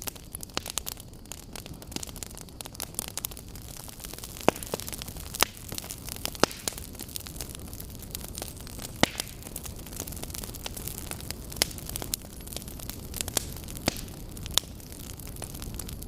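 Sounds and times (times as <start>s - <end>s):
low rushing of flames: 0.0s - 16.0s.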